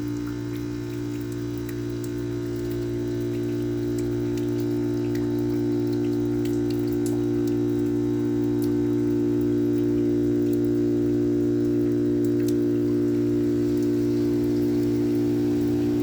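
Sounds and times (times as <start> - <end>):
heat pump compressor humming: 0.0 - 16.0
water dripping ticks: 0.0 - 16.0.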